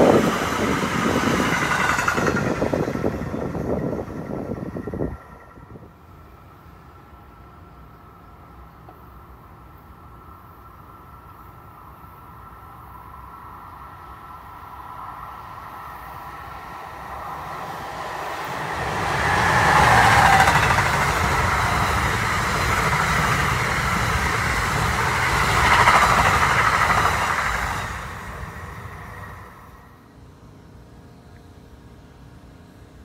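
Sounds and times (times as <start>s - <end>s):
train wheels rushing on rail: 0.0s - 7.8s, 11.2s - 30.1s.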